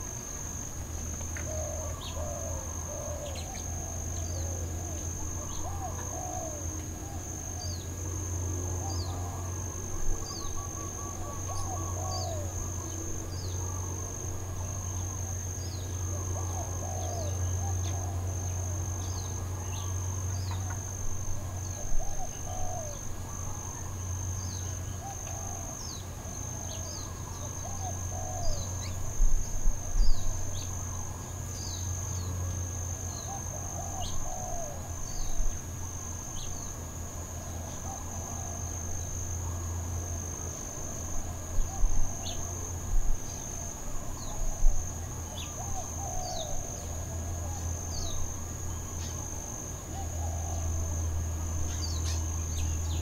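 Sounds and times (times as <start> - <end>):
crickets trilling: 0.0 - 53.0.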